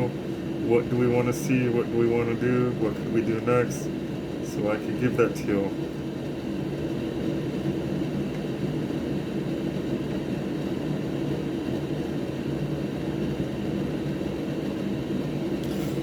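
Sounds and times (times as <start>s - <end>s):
electric fan whirring hum: 0.0s - 16.0s.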